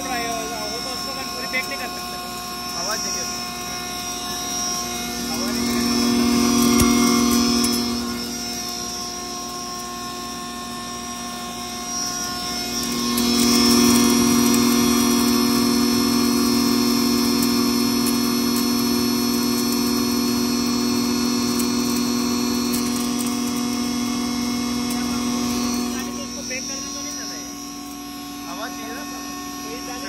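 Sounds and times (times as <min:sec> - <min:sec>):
maize grinder motor humming: 0:00.0 - 0:30.0.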